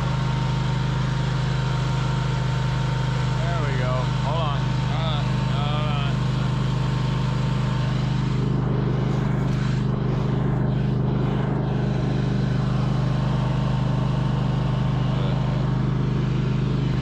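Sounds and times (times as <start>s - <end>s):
snow-clearing machine engine drone: 0.0s - 17.0s.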